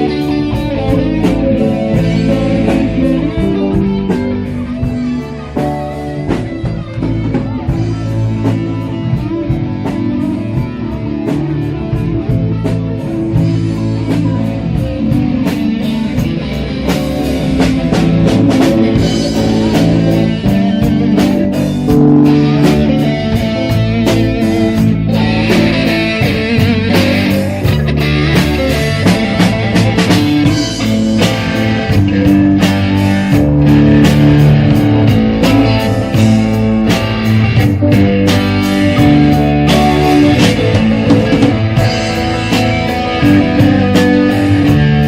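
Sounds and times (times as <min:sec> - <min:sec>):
bass: 0:00.0 - 0:45.0
drum kit beat: 0:00.0 - 0:45.0
guitar: 0:00.0 - 0:45.0.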